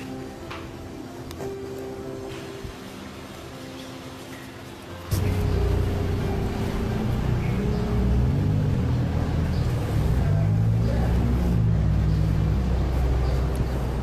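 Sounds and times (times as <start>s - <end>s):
low sustained background music: 0.0s - 14.0s.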